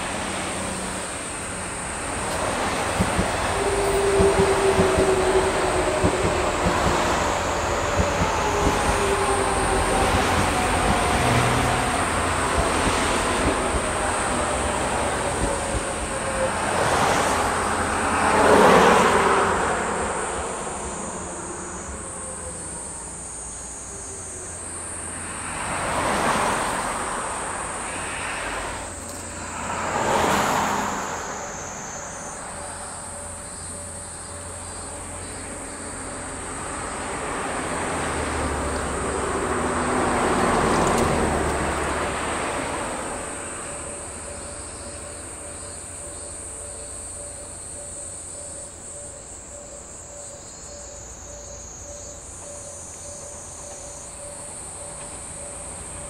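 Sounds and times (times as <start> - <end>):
high insect buzz: 0.0 - 56.0
passing vehicles: 0.0 - 56.0
train running past: 0.0 - 56.0.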